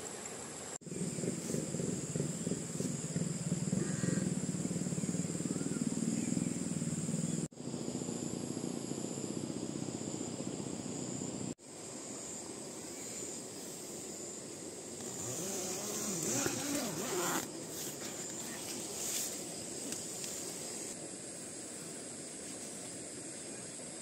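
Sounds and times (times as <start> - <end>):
background hiss: 0.0 - 24.0
insects buzzing: 0.0 - 24.0.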